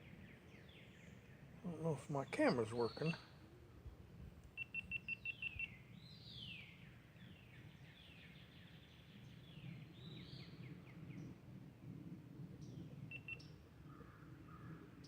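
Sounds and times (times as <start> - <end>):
faint birdsong: 0.0 - 15.0
low steady background rumble: 0.0 - 15.0.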